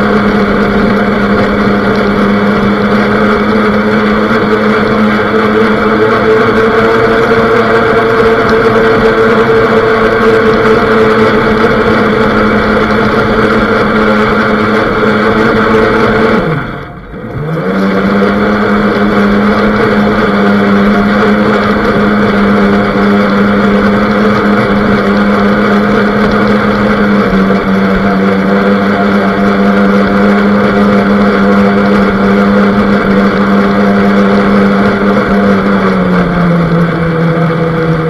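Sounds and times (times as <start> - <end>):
high-pitched boat motor: 0.0 - 38.0
water noise from hull: 0.0 - 38.0.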